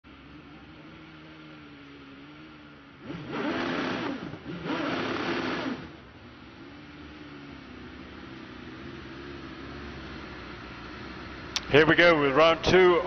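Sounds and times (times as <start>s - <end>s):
race car engine idling and revving: 0.0s - 13.0s.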